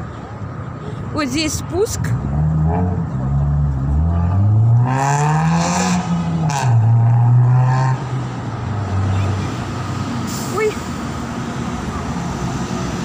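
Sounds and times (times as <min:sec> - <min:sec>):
bus engine pulling away: 0:02.0 - 0:13.0.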